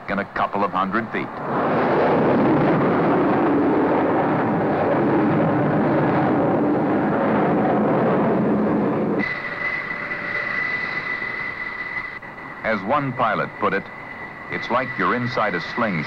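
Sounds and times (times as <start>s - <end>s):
jet engine high whine: 0.0s - 16.0s
jet aircraft roaring at full power: 1.0s - 16.0s.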